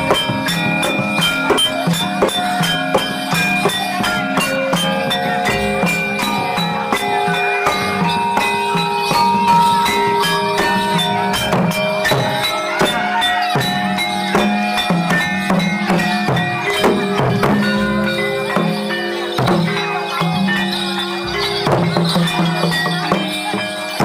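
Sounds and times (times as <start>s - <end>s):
fast drum and percussion beat: 0.0s - 24.0s
struck metal instruments ringing: 0.0s - 24.0s.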